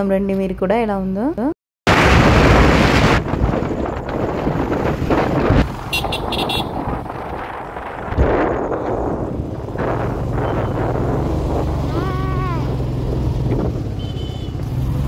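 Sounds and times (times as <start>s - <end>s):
wind rushing over microphone: 1.9s - 14.0s.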